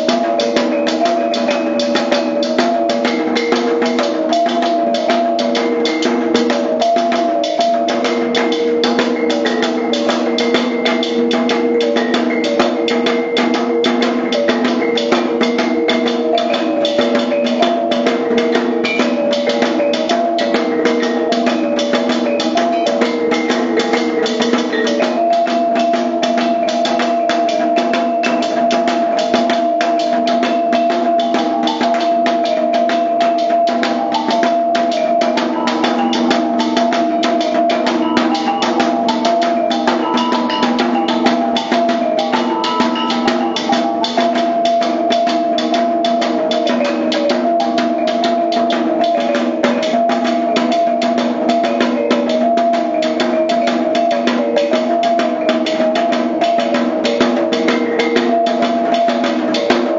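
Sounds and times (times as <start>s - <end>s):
drum and hanging gongs beat: 0.0s - 59.9s
gong-kettles ringing melody: 0.0s - 59.9s.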